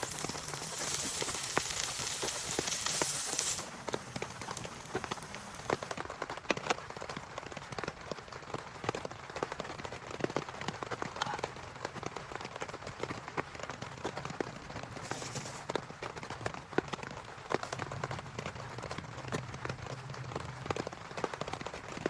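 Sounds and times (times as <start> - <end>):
rain falling: 0.0 - 22.0
raindrops ticking on a surface: 0.0 - 22.0.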